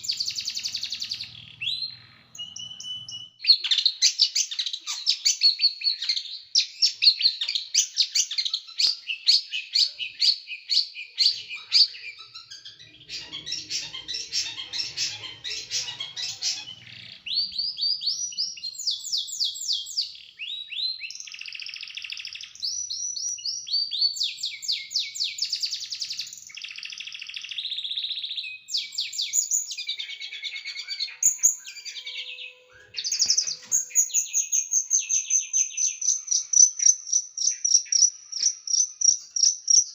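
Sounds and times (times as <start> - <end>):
songbird singing rapid sharp notes: 0.0 - 39.9.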